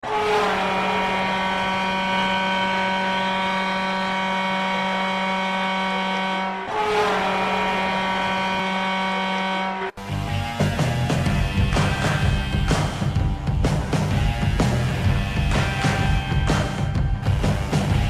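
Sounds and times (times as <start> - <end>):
goal horn blast: 0.0 - 13.2, 13.8 - 18.0.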